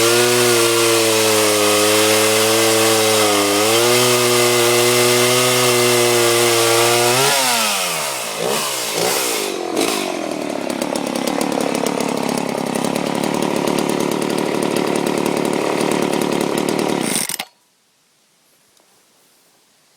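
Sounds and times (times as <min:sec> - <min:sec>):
chainsaw engine revving and idling: 0:00.0 - 0:17.4.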